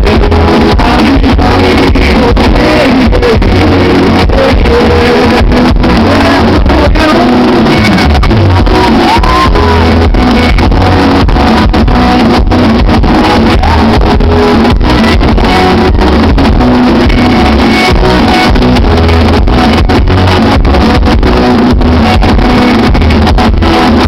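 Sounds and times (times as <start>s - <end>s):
guitar: 0.0s - 24.0s
person singing: 0.0s - 24.0s.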